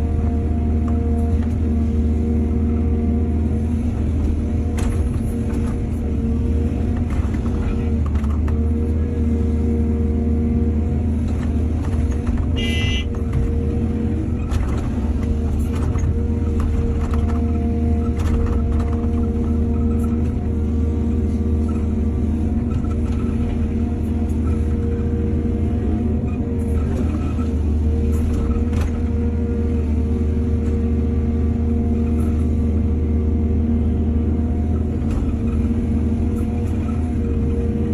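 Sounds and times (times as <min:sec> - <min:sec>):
heavy diesel machinery running: 0:00.0 - 0:37.9.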